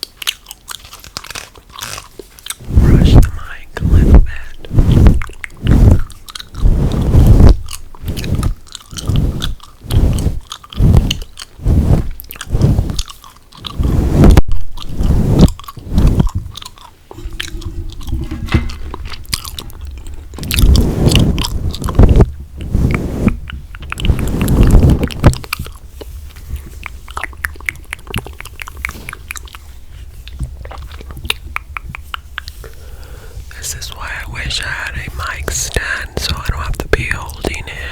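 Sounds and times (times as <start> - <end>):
gum chewing: 0.0 - 37.9.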